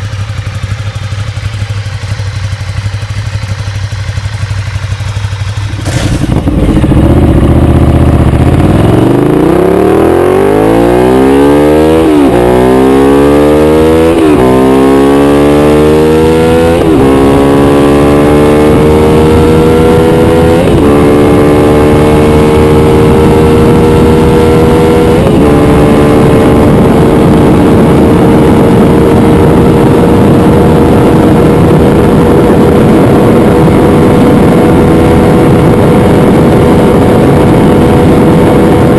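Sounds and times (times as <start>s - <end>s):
motorcycle accelerating through gears: 0.0s - 38.9s.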